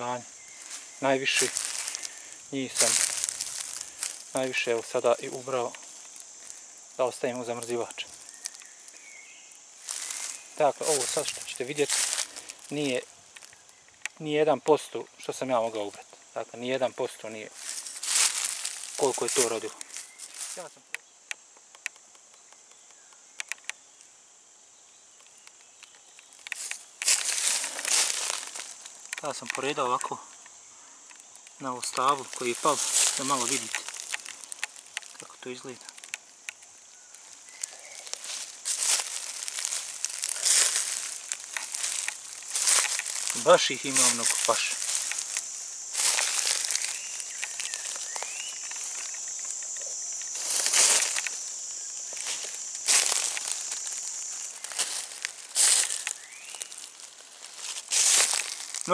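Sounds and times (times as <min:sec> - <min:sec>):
footsteps crunching dry leaves: 0:00.0 - 0:14.3, 0:15.5 - 0:20.9, 0:25.3 - 0:30.4, 0:31.0 - 0:58.9
high-pitched insect drone: 0:00.0 - 0:58.9.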